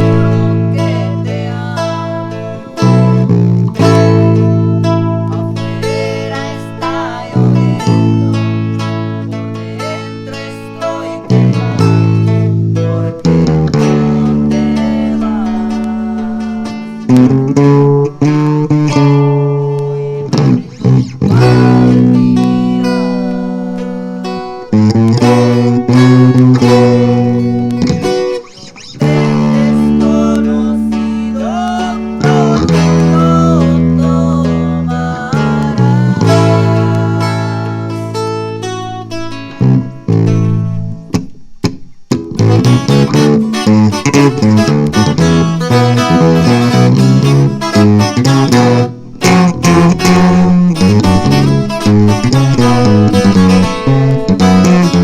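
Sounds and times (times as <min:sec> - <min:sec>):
acoustic guitars strumming: 0:00.0 - 0:55.0
held bass notes: 0:00.0 - 0:55.0.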